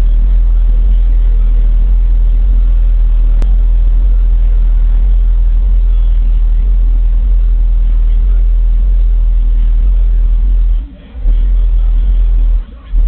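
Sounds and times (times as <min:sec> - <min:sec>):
deep bass from car stereo: 0:00.0 - 0:13.0.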